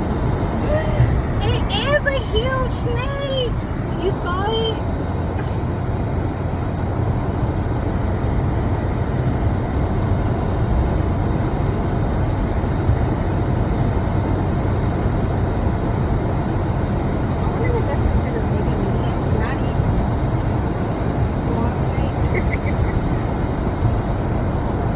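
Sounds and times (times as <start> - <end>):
car engine and road noise: 0.0 - 24.9.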